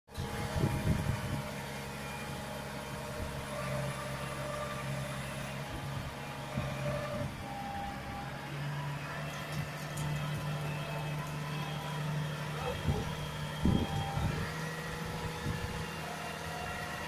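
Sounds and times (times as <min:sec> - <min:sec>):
tractor engine running under load: 0:00.1 - 0:17.0.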